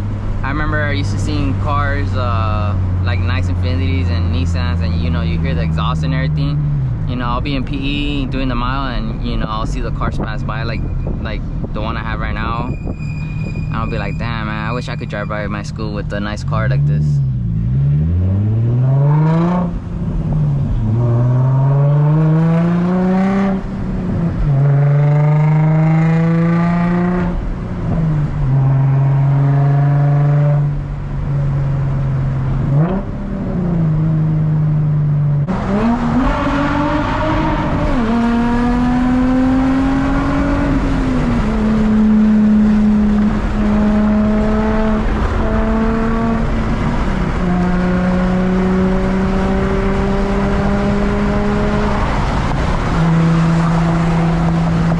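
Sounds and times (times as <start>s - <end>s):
car exhaust through gear shifts: 0.0s - 54.9s.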